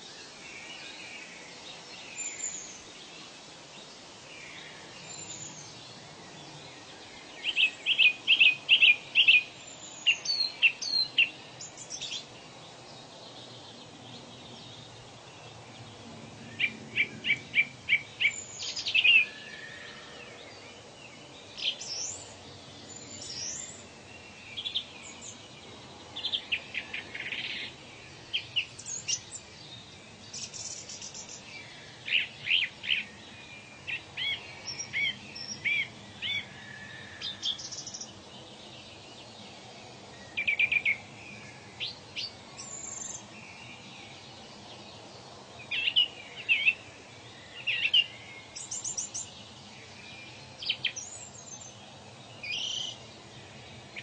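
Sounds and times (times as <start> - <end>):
background hiss: 0.0 - 54.0
wild birds calling and singing: 0.0 - 54.0.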